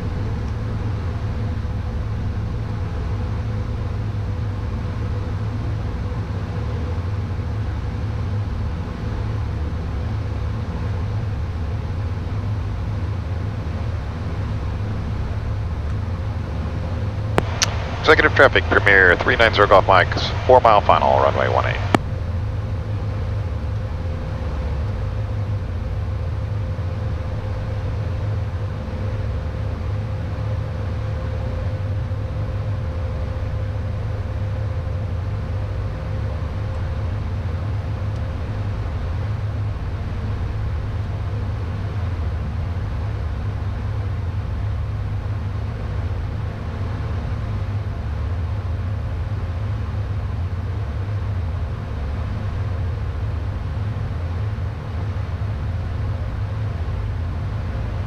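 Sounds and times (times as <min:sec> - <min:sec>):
faint steady tone: 0:00.0 - 0:58.0
jet cockpit rumble: 0:00.0 - 0:58.0.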